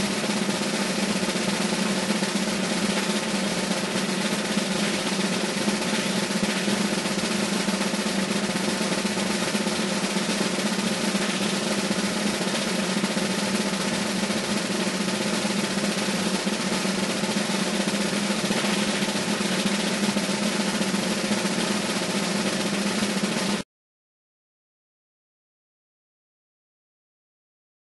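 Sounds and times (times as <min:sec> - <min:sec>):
snare drum roll: 0:00.0 - 0:23.6.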